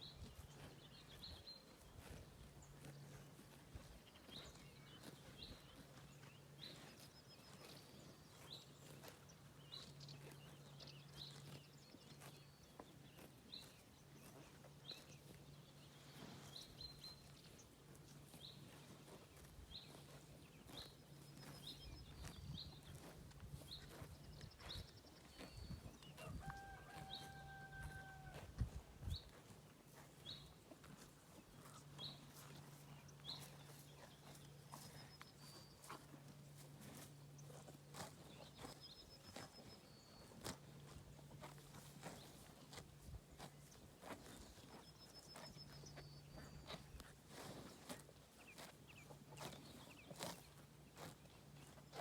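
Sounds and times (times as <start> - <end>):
small birds chirping: 0.0 - 28.4, 29.0 - 52.0
cows chewing grass: 0.0 - 52.0.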